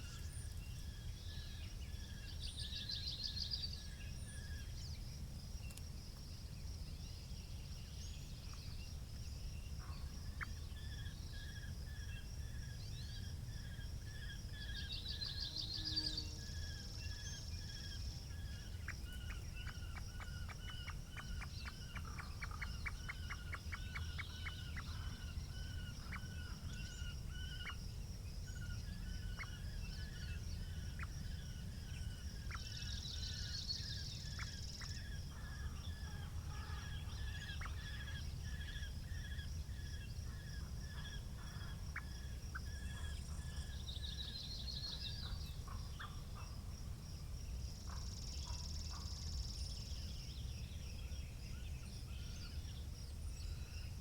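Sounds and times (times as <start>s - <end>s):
small birds singing: 0.0s - 54.0s.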